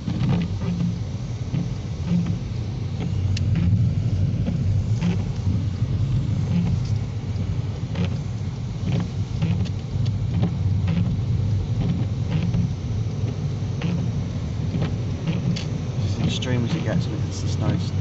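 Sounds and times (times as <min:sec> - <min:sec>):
car driving rumble inside cabin: 0:00.0 - 0:18.0.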